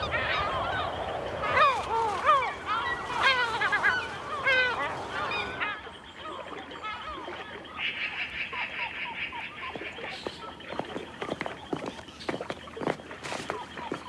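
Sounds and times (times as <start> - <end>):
seagulls crying: 0.0 - 14.0.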